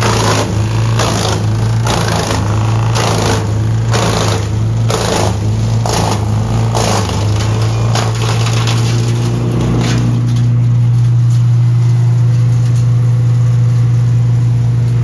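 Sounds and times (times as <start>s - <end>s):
wood chipping noise: 0.0s - 13.7s
wood chipper engine hum: 0.0s - 15.0s.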